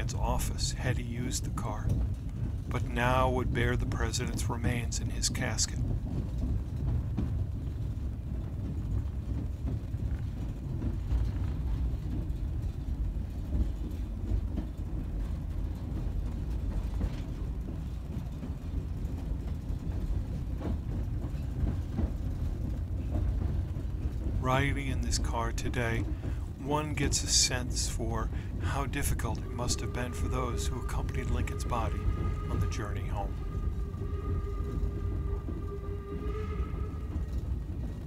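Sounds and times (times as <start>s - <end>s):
railroad car wheels rumbling: 0.0s - 38.0s.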